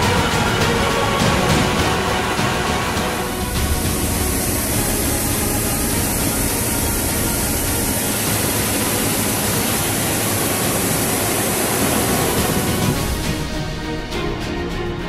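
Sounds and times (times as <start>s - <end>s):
grain pouring hiss: 0.0s - 13.6s
combine harvester running: 0.0s - 15.0s.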